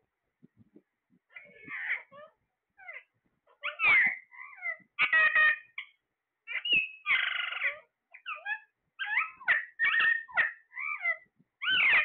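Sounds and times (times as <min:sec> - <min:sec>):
parakeets squawking and chattering: 0:01.3 - 0:12.0.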